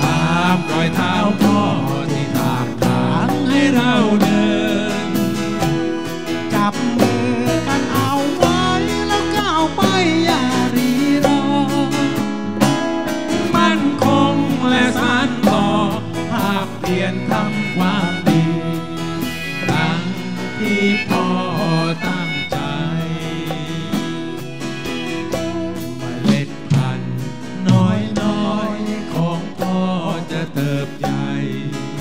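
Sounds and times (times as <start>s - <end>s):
pitch-bending melody line: 0.0s - 31.6s
acoustic guitar: 0.0s - 32.0s
drum kit: 0.0s - 32.0s.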